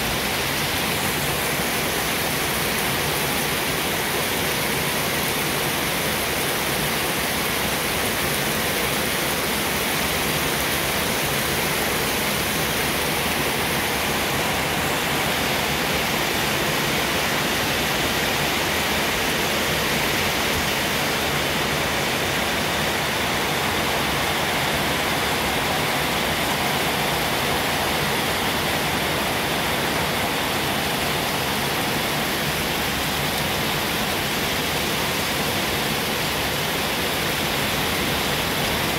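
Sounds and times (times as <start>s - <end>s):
steady rushing hiss: 0.0s - 38.9s.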